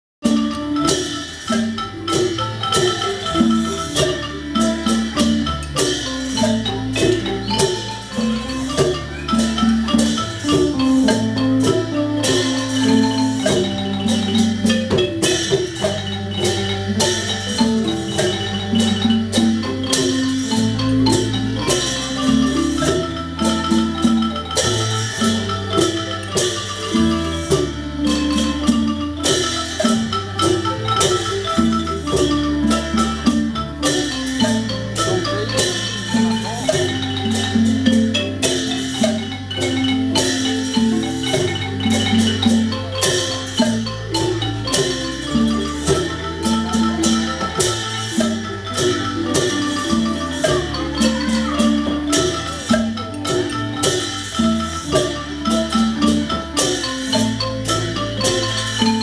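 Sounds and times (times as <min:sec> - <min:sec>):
drums: 0:00.2 - 0:59.0
xylophone quick runs: 0:00.2 - 0:59.0.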